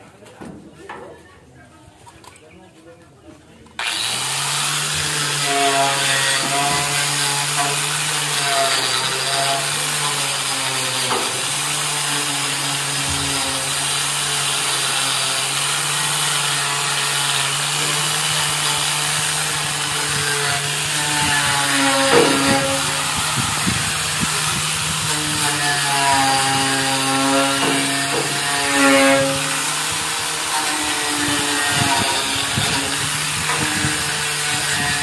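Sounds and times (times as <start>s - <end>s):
power grinder scouring metal: 3.8s - 35.0s.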